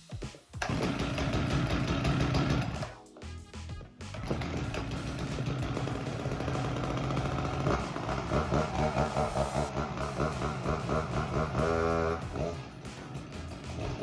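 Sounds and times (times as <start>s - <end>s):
two-stroke chainsaw running: 0.6s - 2.9s, 4.1s - 14.0s.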